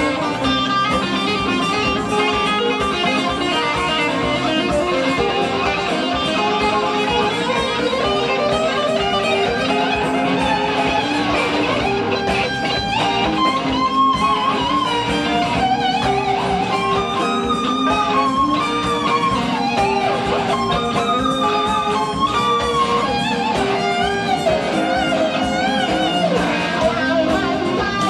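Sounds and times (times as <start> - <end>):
electric guitar lead: 0.0 - 28.0
rock band playing: 0.0 - 28.0.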